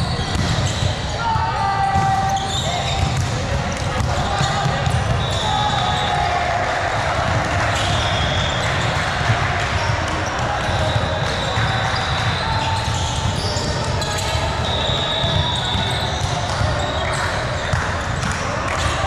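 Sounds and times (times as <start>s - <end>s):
volleyballs bouncing and struck: 0.0s - 1.2s, 1.8s - 19.0s
chatter of many voices: 0.0s - 19.0s.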